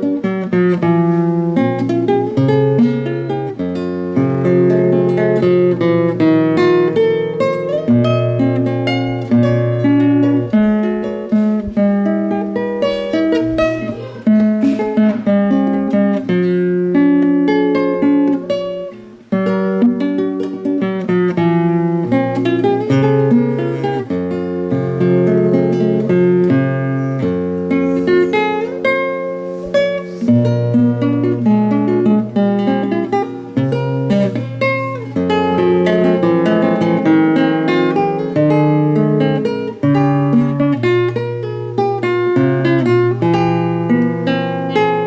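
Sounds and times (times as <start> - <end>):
classical guitar playing: 0.0 - 45.0.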